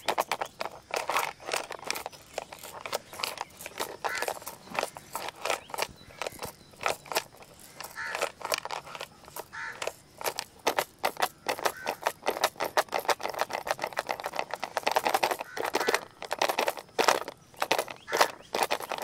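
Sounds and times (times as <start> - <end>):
pencils rattling in plastic box: 0.0 - 19.0.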